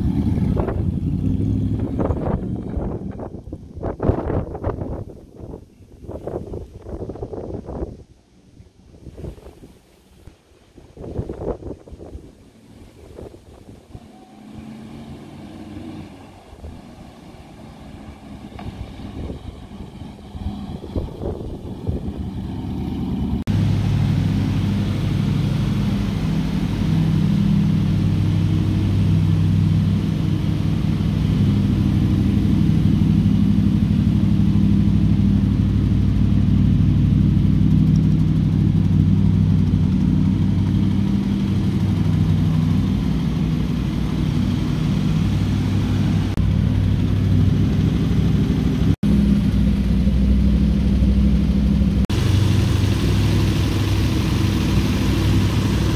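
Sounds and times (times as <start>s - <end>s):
car engine idling: 0.0s - 6.4s, 10.5s - 55.9s
wind on microphone: 0.0s - 55.9s.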